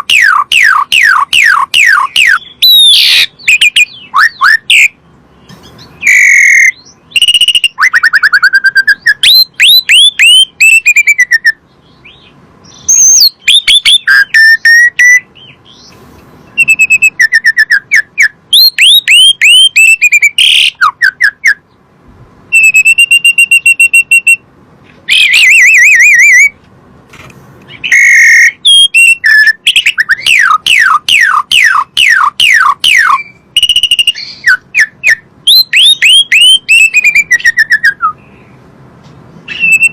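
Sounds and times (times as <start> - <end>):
starling singing whistled phrases: 0.0 - 5.0, 5.8 - 15.9, 16.5 - 21.6, 22.5 - 24.4, 25.1 - 26.6, 27.7 - 38.3, 39.5 - 39.9.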